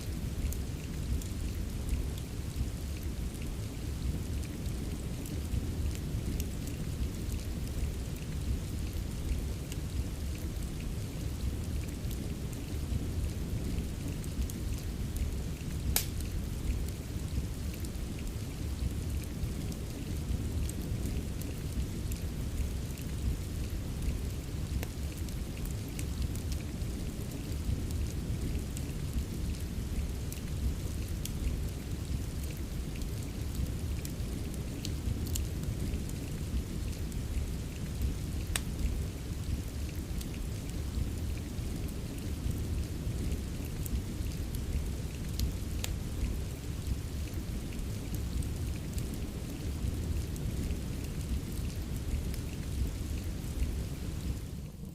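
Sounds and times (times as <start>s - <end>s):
steady rain: 0.0s - 54.9s
wood fire crackling: 0.0s - 54.9s.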